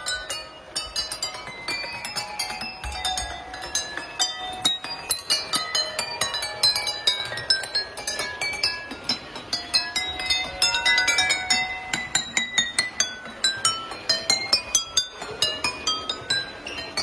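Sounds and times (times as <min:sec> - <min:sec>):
water glasses struck in a melody: 0:00.0 - 0:17.0.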